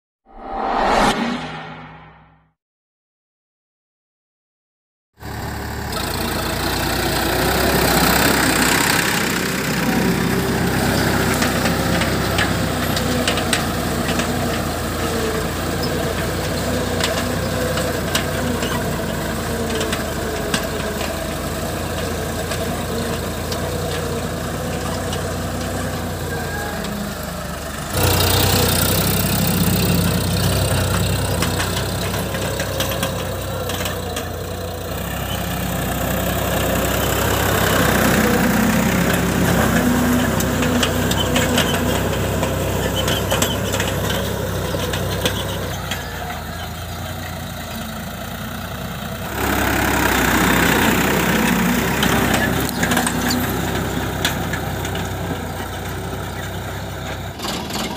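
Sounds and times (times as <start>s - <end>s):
tractor diesel engine under load: 5.2s - 57.9s.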